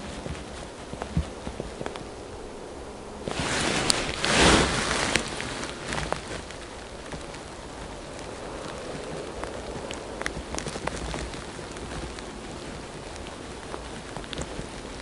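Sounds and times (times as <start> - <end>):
faint clicks: 0.0 - 2.3, 3.3 - 15.0
footsteps crunching snow: 0.0 - 2.5, 3.1 - 15.0
fleece jacket rustling: 0.0 - 15.0
low steady background noise: 0.0 - 15.0.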